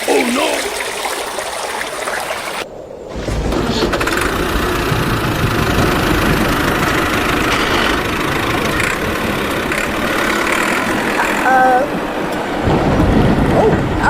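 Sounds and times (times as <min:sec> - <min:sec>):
engine rumbling: 0:02.5 - 0:14.0.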